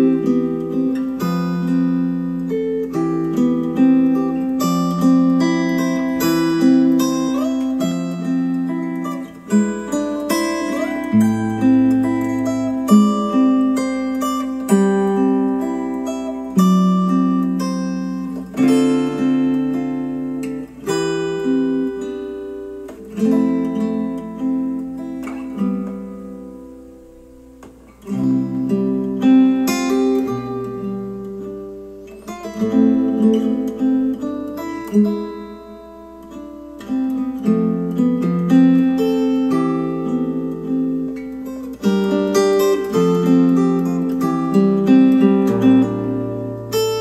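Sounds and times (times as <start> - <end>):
acoustic guitar music: 0.0 - 47.0.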